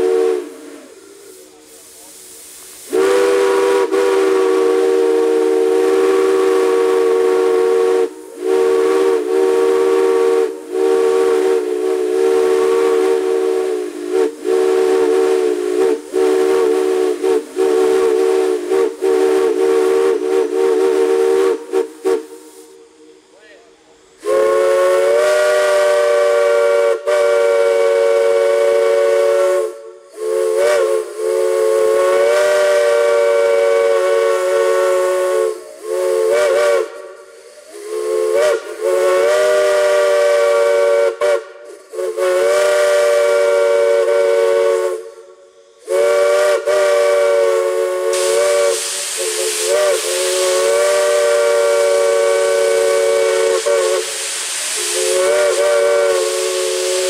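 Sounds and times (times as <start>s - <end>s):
steam whistle blasts: 0.0s - 23.6s, 24.2s - 57.0s
steam hissing: 0.0s - 57.0s.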